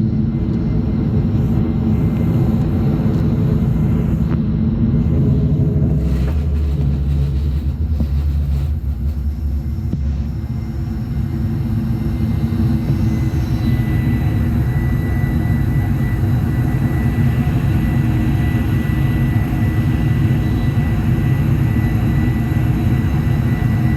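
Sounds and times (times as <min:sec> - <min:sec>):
airplane cabin engine rumble: 0:00.0 - 0:23.9
thin high whine: 0:00.0 - 0:23.9.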